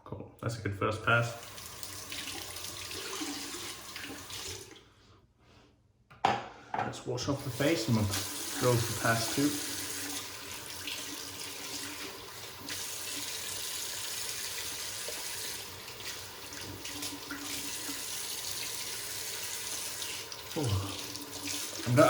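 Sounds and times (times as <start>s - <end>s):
tap water running into sink: 1.3s - 4.8s, 7.3s - 22.0s.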